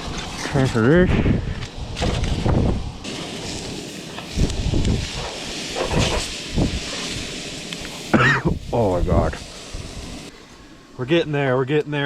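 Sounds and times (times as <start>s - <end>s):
camp stove hiss: 0.0s - 12.0s.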